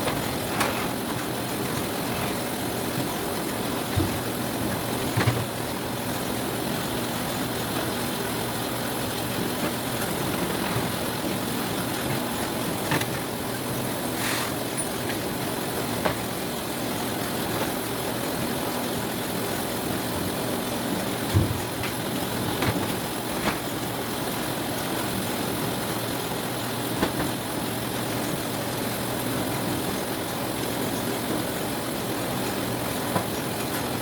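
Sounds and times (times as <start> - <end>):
sorting machine running: 0.0 - 28.3.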